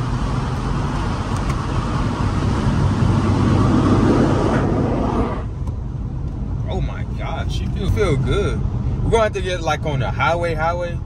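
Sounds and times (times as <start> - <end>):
car engine in cabin: 0.0 - 11.0
road noise: 0.0 - 11.0.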